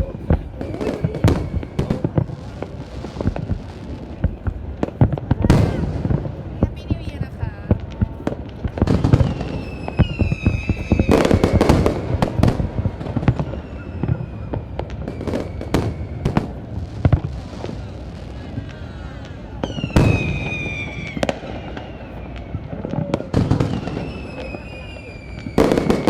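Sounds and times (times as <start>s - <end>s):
fireworks bangs and crackling: 0.0s - 26.0s
fireworks whistles: 0.0s - 26.0s.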